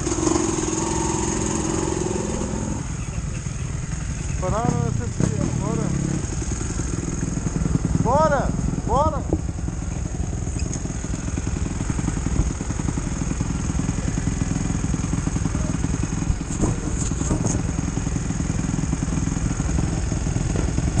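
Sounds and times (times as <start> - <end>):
motorcycle engines idling: 0.0 - 21.0.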